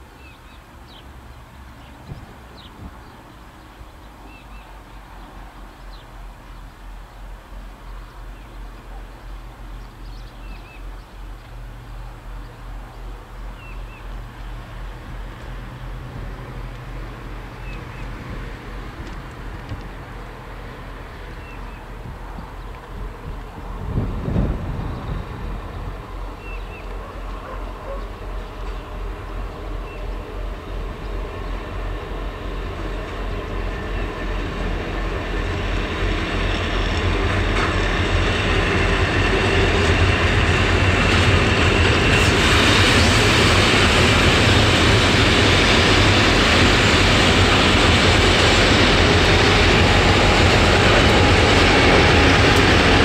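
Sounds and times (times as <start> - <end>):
diesel locomotive engines: 0.0 - 53.0.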